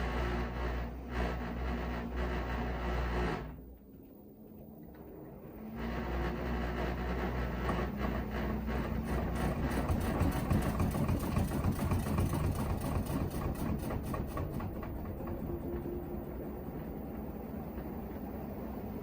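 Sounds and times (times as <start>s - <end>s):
washing machine humming and rumbling: 0.0s - 19.0s.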